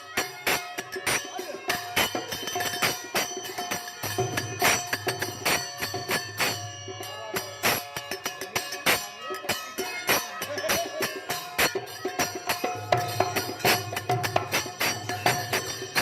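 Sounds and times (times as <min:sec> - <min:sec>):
jingling percussion: 0:00.0 - 0:16.0.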